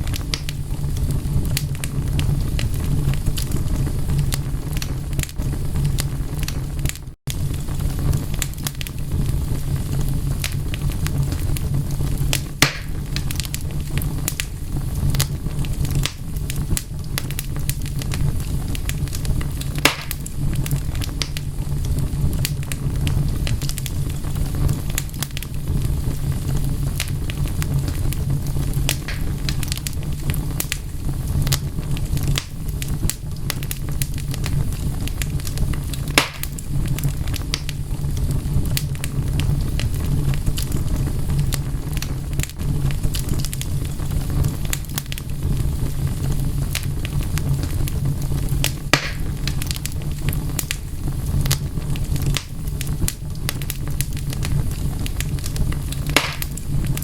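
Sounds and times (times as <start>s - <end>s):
loud fire pops: 0.0s - 57.0s
wood fire crackling: 0.0s - 57.0s.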